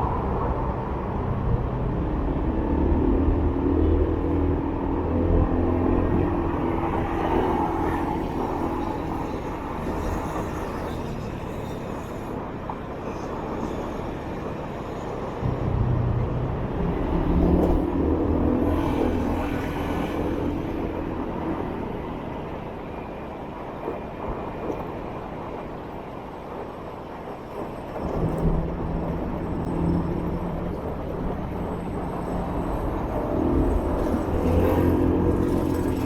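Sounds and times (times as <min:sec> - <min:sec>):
road and wind noise: 0:00.0 - 0:36.0
traffic vehicles: 0:00.0 - 0:36.0.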